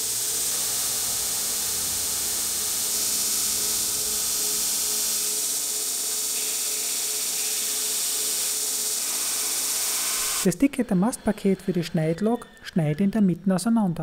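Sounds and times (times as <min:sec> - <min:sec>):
belt grinder grinding steel: 0:00.0 - 0:13.1.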